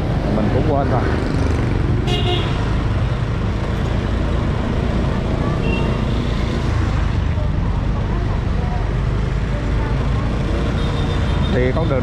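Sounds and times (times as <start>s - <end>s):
motorbike engines: 0.0s - 12.0s
street traffic rumble: 0.0s - 12.0s.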